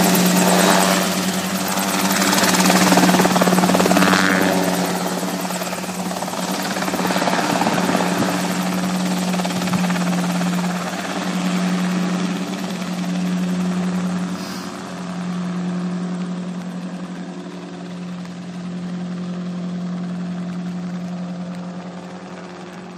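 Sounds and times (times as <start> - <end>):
helicopter engine and rotor: 0.0 - 22.9.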